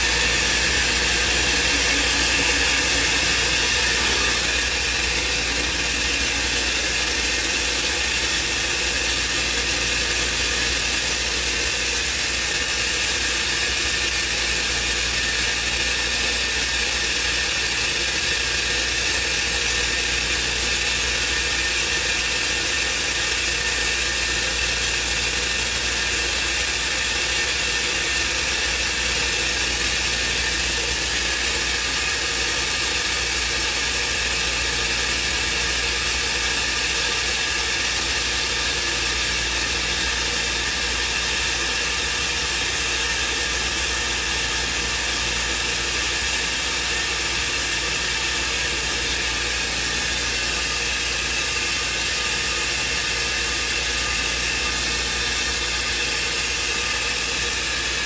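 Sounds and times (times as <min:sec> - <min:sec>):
cnc router machining: 0:00.0 - 0:58.0.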